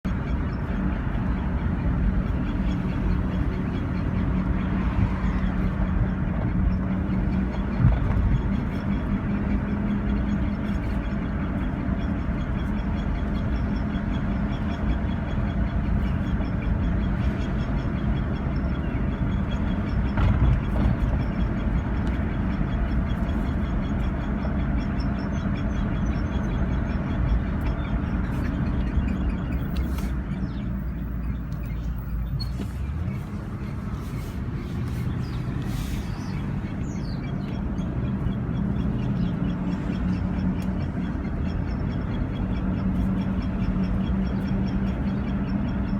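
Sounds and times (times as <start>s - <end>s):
vehicle rumble: 0.0s - 45.9s.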